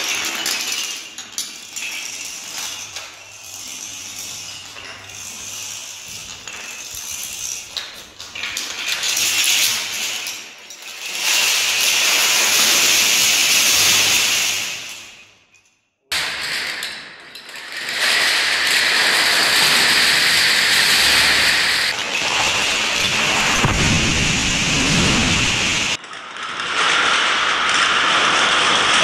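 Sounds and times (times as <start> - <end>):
wooden planks clattering and crashing: 0.0 - 14.9, 17.6 - 26.0.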